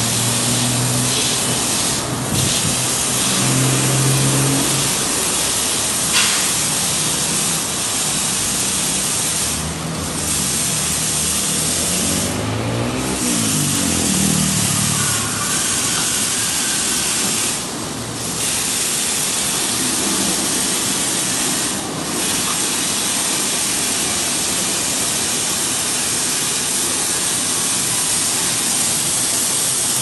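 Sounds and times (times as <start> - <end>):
loud rushing hiss: 0.0 - 30.0.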